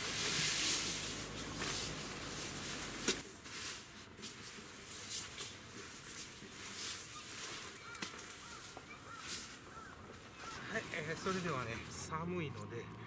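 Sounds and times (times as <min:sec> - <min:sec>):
sleeping bag nylon rustling: 0:00.0 - 0:12.1.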